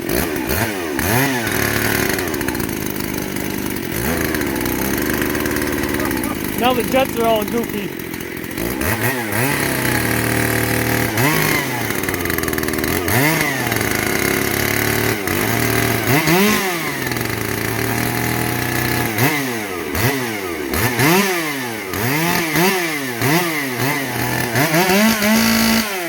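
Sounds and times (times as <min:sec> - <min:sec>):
chainsaw revving and idling: 0:00.0 - 0:26.0.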